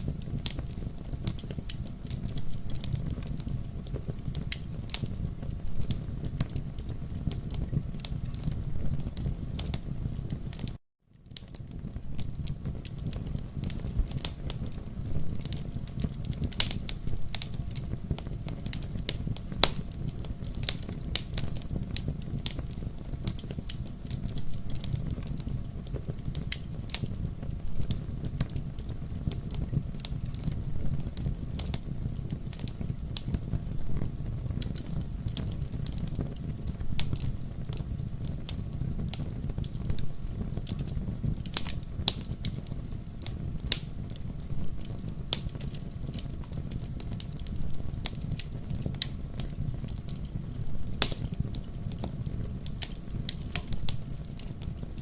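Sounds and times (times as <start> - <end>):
campfire wood crackling and popping: 0.0 - 55.0
low rumble of flames: 0.0 - 55.0.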